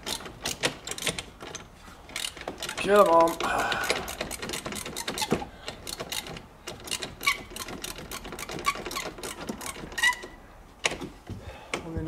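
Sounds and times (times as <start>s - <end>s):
ratchet spanner clicking: 0.0s - 10.2s.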